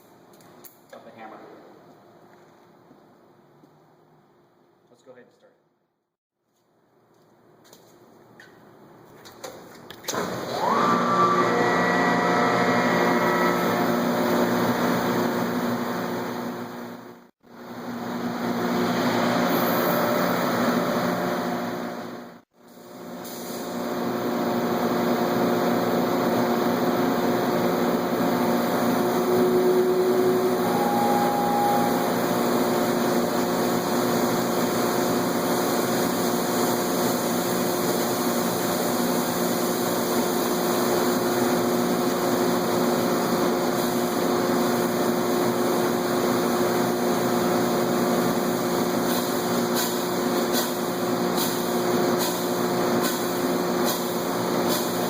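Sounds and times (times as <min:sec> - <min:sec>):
industrial machinery humming: 0:10.1 - 0:55.0.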